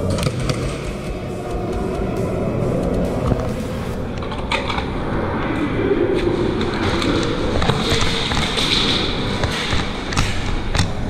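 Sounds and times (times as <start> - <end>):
steady noisy din: 0.0 - 11.0.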